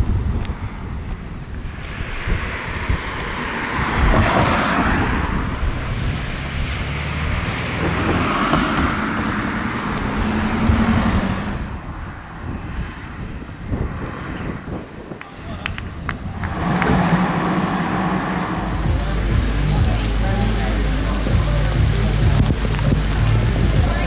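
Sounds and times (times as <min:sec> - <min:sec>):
low engine hum: 0:00.0 - 0:12.7, 0:15.6 - 0:24.0
tyre noise of passing vehicles: 0:00.0 - 0:24.0.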